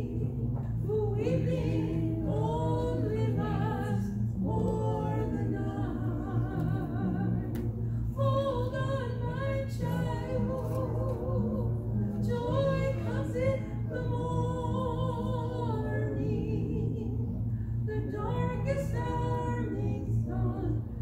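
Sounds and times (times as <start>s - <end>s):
low sustained accompaniment: 0.0s - 21.0s
woman singing gospel: 0.0s - 21.0s.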